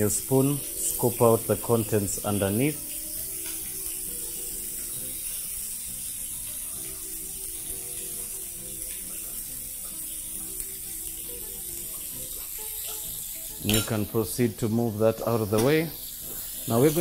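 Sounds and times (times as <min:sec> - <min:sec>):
meat sizzling on a grill pan: 0:00.0 - 0:17.0
soft background music: 0:00.0 - 0:17.0.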